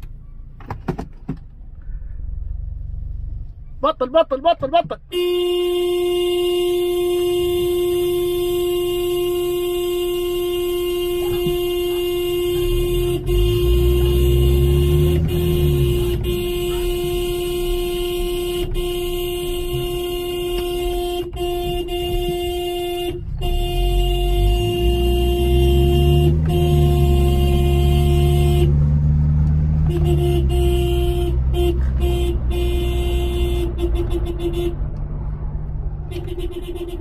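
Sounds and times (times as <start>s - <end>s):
car engine from inside cabin: 0.0s - 37.0s.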